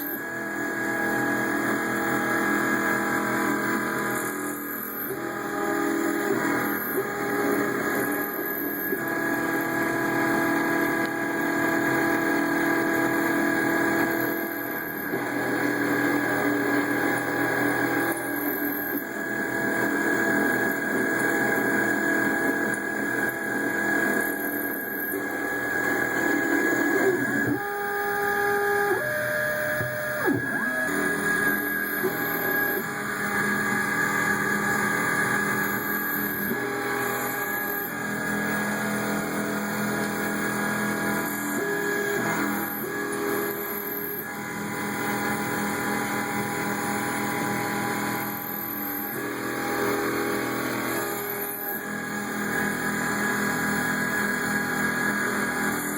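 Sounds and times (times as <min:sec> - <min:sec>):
stepper motors whining: 0:00.0 - 0:55.9.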